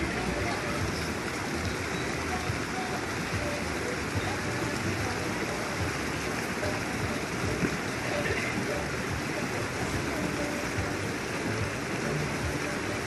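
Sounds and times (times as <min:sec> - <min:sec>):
swimmers splashing: 0:00.0 - 0:13.0
water rushing: 0:00.0 - 0:13.0.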